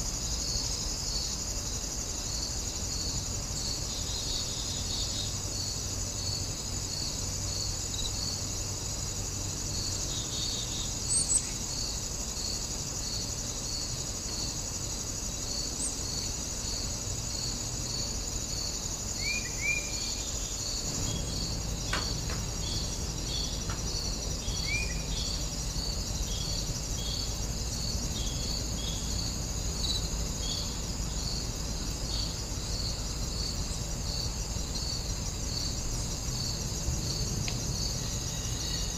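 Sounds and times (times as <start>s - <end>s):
insects chirping in grass: 0.0s - 38.9s
repeating insect chirp: 0.0s - 38.9s.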